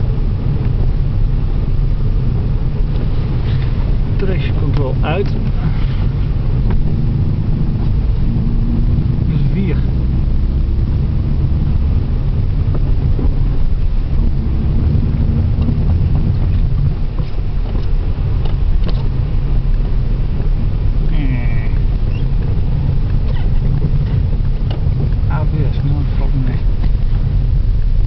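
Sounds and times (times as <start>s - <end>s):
car engine rumbling: 0.0s - 28.0s
tyre and road noise: 0.0s - 28.0s.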